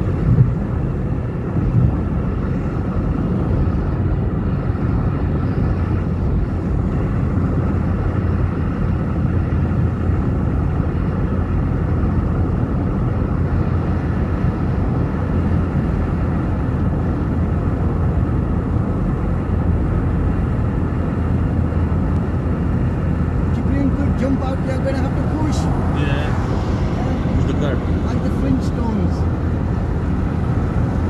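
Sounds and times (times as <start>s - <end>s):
vehicle cabin drone at speed: 0.0s - 31.0s.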